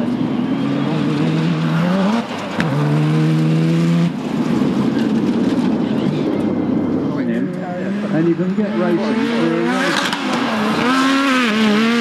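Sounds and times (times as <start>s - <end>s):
buggy engine revving: 0.0s - 6.3s, 7.7s - 12.0s.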